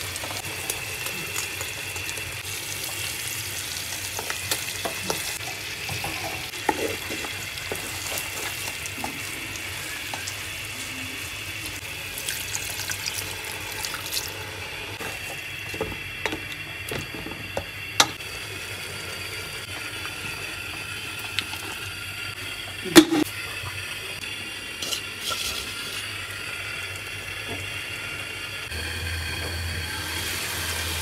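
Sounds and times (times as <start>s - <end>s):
curry sizzling and bubbling: 0.0s - 31.0s.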